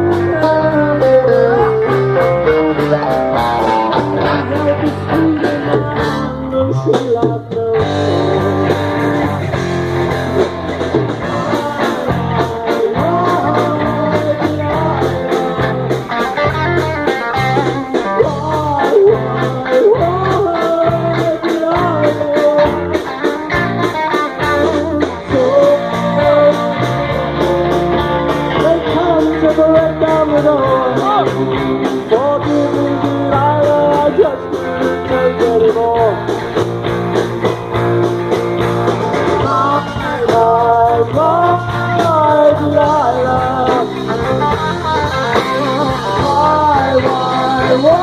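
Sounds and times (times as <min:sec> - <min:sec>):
bass guitar: 0:00.0 - 0:48.0
lead guitar bending notes: 0:00.0 - 0:48.0
steady drum beat: 0:00.0 - 0:48.0.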